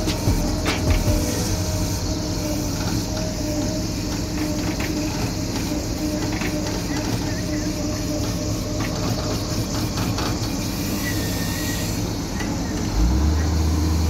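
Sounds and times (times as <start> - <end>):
steady pitched hum: 0.0 - 12.3
excavator diesel engine running: 0.0 - 14.0.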